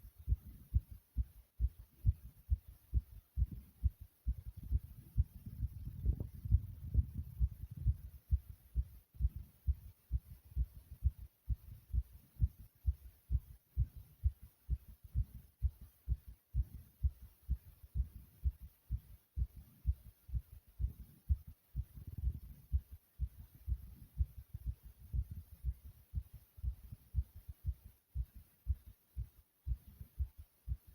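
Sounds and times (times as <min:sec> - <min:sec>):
heartbeat thumping: 0:00.0 - 0:30.9.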